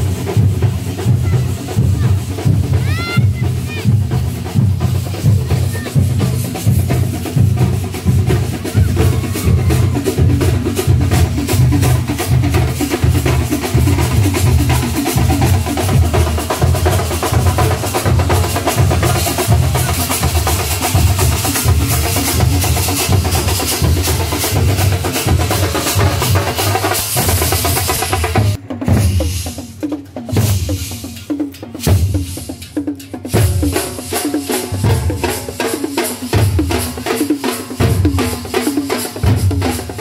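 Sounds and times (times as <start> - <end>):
drums beaten with sticks: 0.0 - 40.0.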